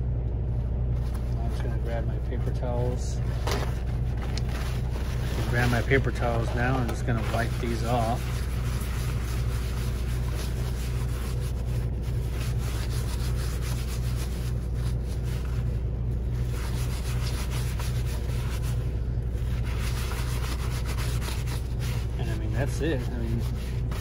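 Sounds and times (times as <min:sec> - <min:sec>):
steady low hum: 0:00.0 - 0:24.0
paper towels wiping plastic board: 0:00.9 - 0:24.0.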